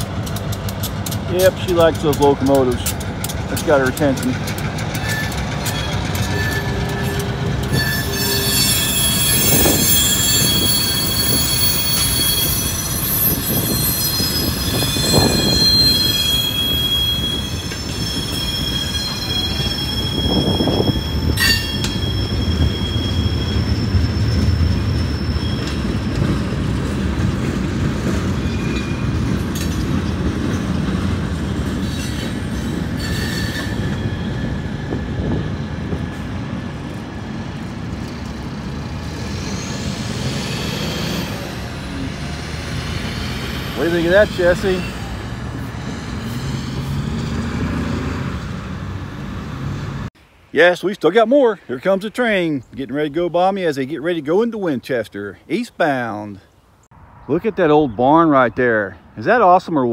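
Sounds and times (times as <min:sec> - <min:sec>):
freight cars rolling rumble: 0:00.0 - 0:50.1
wheels squealing: 0:00.0 - 0:50.1.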